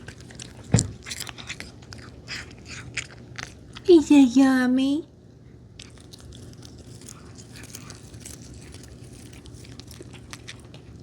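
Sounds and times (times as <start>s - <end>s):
cat chewing crunchy food: 0.0s - 4.1s, 5.4s - 11.0s.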